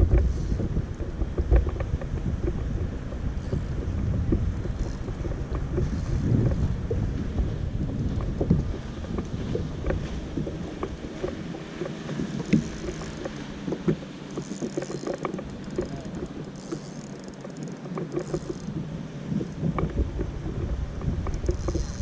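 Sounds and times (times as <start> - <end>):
light knocks and ticks: 0.0 - 7.0, 7.8 - 22.0
water lapping against boat hull: 0.0 - 22.0
wind rumbling on microphone: 0.0 - 22.0.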